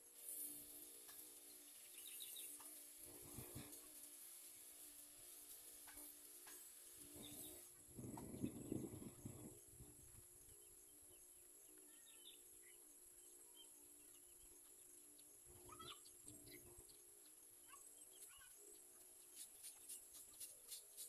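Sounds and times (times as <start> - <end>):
steady high hiss: 0.0 - 21.0
small birds chirping: 0.4 - 5.0, 5.8 - 21.0.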